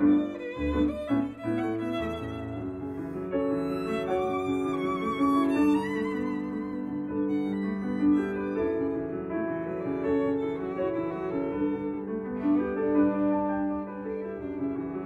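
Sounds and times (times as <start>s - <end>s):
violin slow melody: 0.0s - 15.0s.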